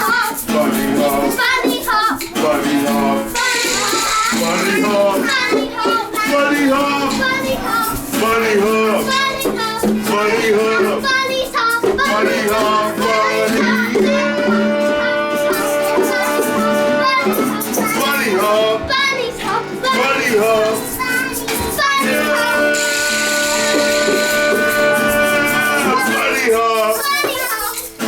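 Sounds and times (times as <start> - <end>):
child singing: 0.0 - 28.0
music: 0.0 - 28.0.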